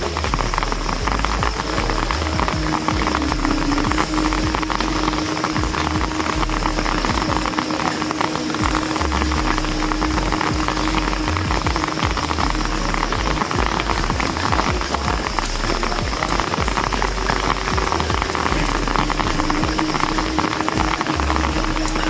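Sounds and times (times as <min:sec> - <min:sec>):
heavy rain on concrete and leaves: 0:00.0 - 0:22.0.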